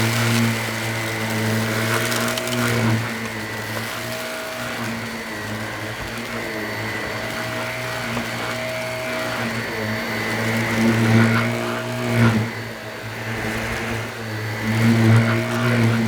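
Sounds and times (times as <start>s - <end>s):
vacuum cleaner on carpet: 0.0s - 16.0s.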